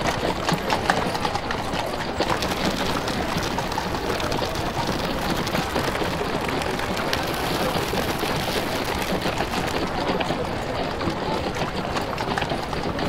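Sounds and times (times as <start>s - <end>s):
hooves clip-clopping: 0.0s - 13.0s
wheels rattling over paving: 0.0s - 13.0s.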